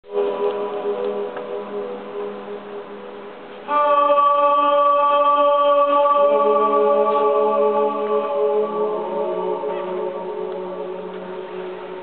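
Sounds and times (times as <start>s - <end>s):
person singing long held notes: 0.1s - 12.0s.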